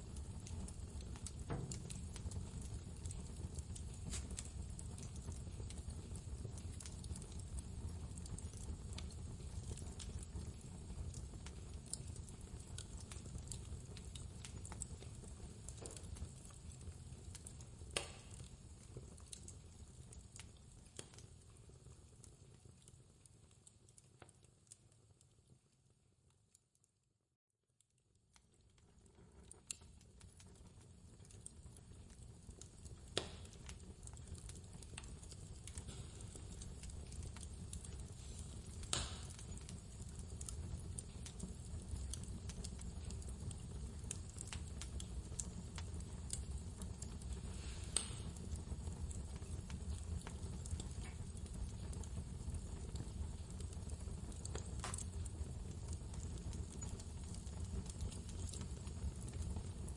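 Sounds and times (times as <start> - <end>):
wood fire crackling: 0.0 - 26.8, 27.8 - 59.9.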